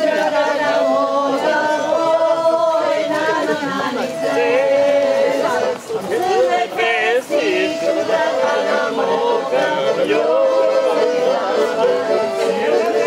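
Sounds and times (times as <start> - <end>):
voices singing without instruments: 0.0 - 13.0.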